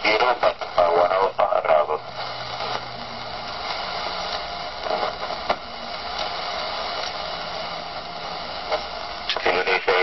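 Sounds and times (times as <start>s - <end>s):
radio receiver hiss and static: 0.0s - 10.0s.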